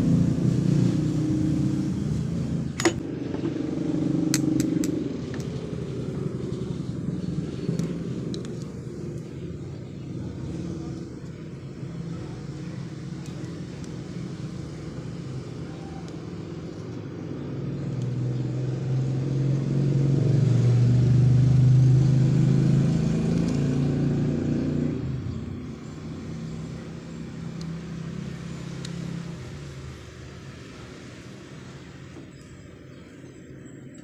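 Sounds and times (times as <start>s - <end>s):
vehicle engine passing by: 0.0s - 33.7s
low hum of traffic: 0.0s - 34.0s.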